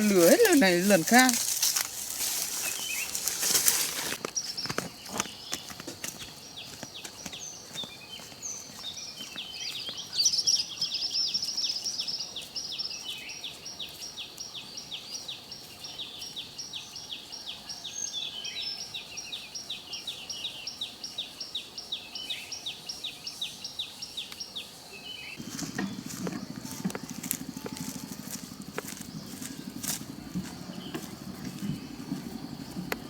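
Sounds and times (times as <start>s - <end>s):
bird chirping: 0.0s - 33.0s
forest background hiss: 0.0s - 33.0s.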